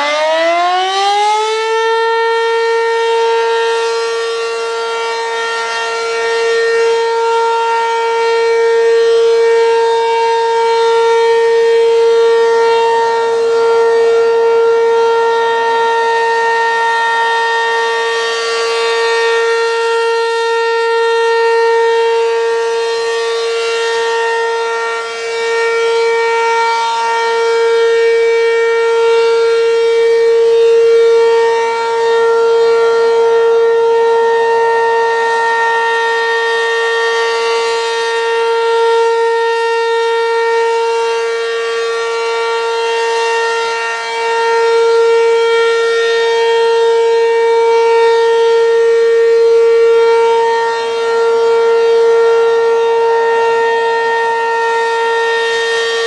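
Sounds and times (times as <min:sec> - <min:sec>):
rotating siren steady tone: 0:00.0 - 0:56.0.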